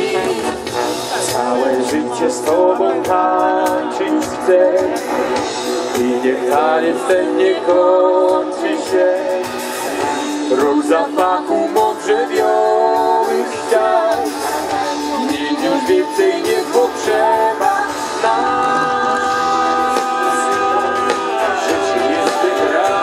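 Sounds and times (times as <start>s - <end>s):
live folk-pop band with singing: 0.0s - 23.0s.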